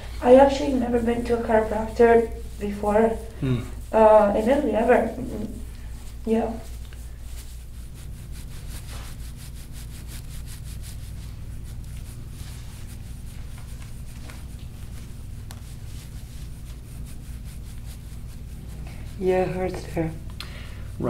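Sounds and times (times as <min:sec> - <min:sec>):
steady low hum: 0:00.0 - 0:21.0
scraping tool rubbing oiled skin: 0:00.2 - 0:21.0.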